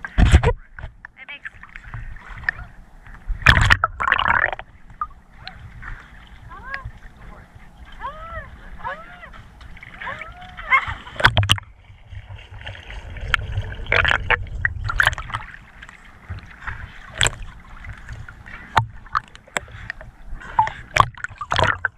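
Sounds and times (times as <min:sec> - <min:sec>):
water sloshing against camera: 0:00.0 - 0:21.9
sharp splashes: 0:03.4 - 0:21.9.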